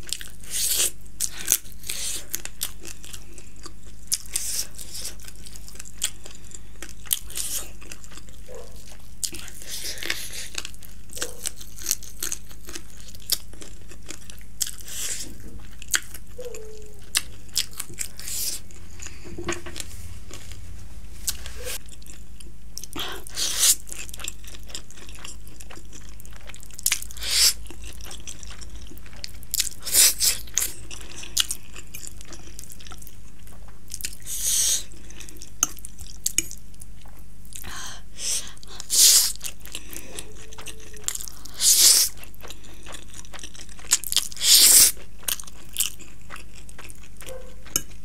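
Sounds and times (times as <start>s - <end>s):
person chewing and biting: 0.0s - 20.6s, 21.3s - 48.0s.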